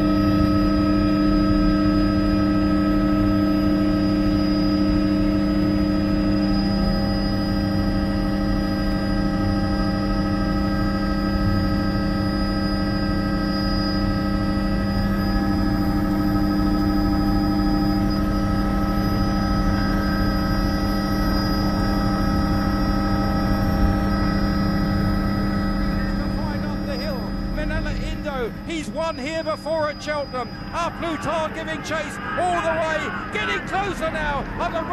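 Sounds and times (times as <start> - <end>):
helicopter cabin drone: 0.0 - 34.9
whining tones: 0.0 - 34.9.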